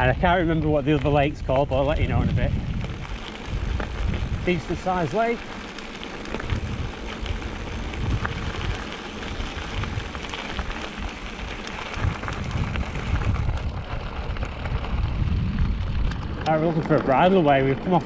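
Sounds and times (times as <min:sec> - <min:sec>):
bike tyres rolling on gravel: 0:00.0 - 0:18.0
wind buffeting microphone: 0:00.0 - 0:18.0.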